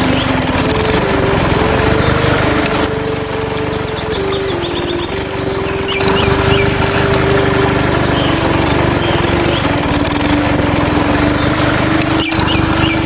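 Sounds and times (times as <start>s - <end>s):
small motor rattling and whining: 0.0s - 13.0s.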